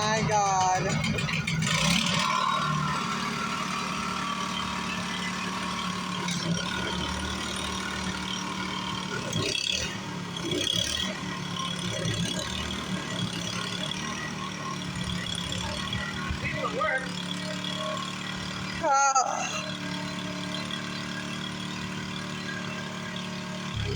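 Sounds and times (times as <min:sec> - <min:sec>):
engine idling: 0:00.0 - 0:23.9.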